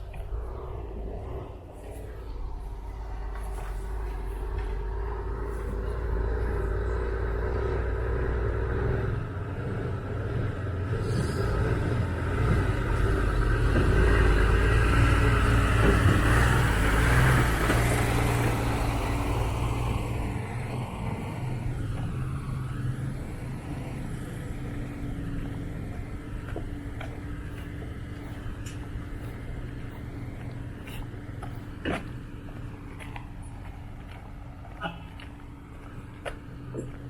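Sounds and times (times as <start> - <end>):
vehicle passing by: 0.0 - 37.0.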